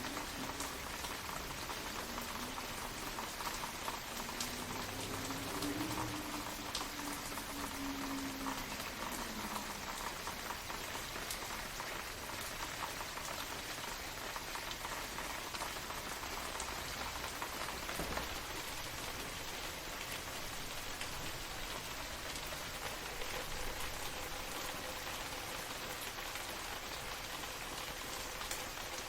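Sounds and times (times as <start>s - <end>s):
raindrops pattering: 0.0s - 29.0s
steady rain hiss: 0.0s - 29.0s.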